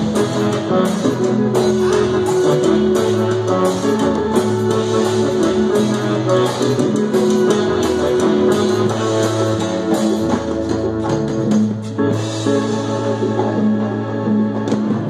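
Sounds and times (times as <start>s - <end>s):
bass notes: 0.0s - 15.0s
drums: 0.0s - 15.0s
keyboard notes: 0.0s - 15.0s.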